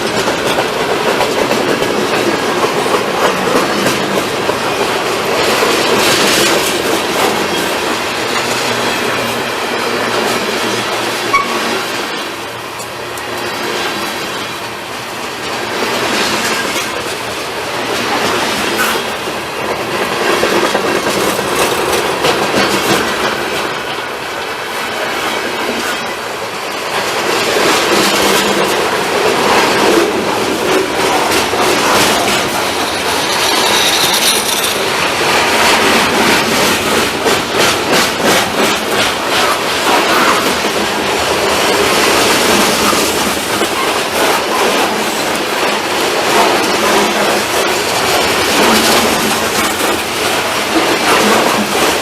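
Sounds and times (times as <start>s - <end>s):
freight train rumbling: 0.0s - 52.0s
wheels clattering over rail joints: 0.0s - 52.0s.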